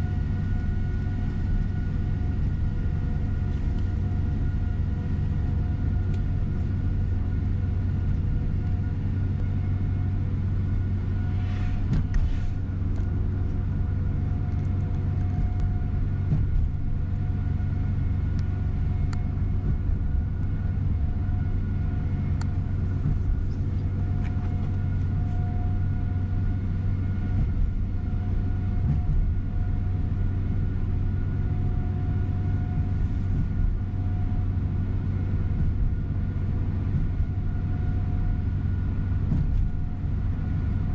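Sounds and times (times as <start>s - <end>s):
coach engine and road hum: 0.0s - 40.9s.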